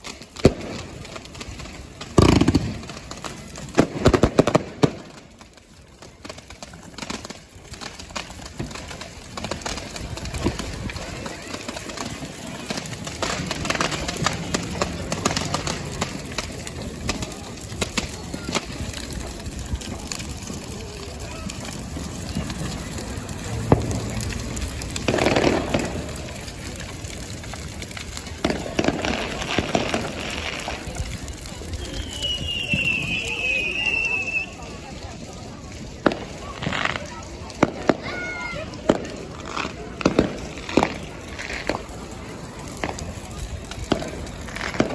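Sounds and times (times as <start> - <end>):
firework pops and crackles: 0.0 - 44.9
outdoor background noise: 0.0 - 44.9.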